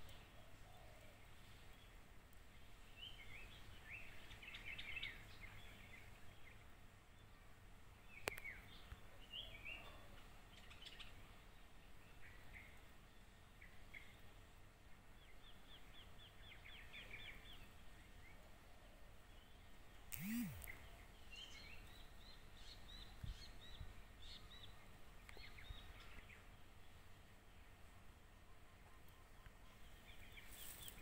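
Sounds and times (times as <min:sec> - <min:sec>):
songbird chirping: 0:00.0 - 0:31.0.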